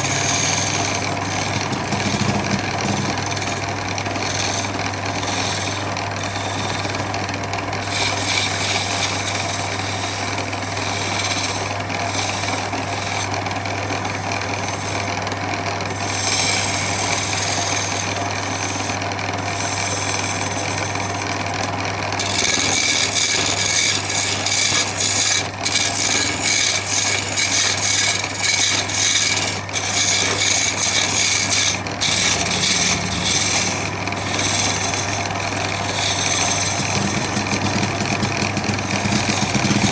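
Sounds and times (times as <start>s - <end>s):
power tool working on wood: 0.0s - 39.9s.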